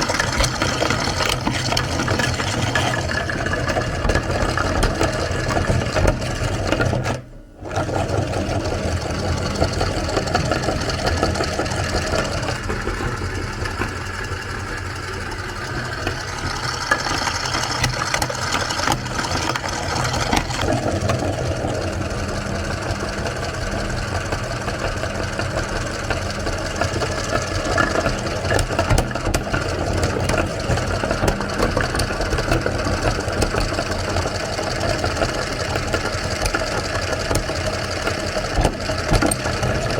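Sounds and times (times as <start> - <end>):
electric meat grinder running: 0.0 - 39.9.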